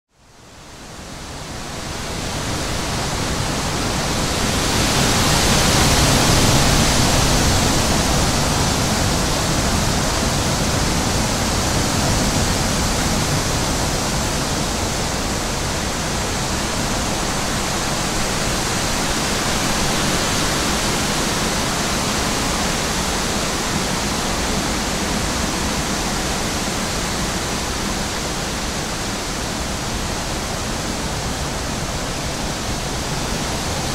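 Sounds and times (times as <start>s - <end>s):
wind blowing through tree: 0.1s - 33.9s
gusts buffeting microphone: 1.3s - 33.9s.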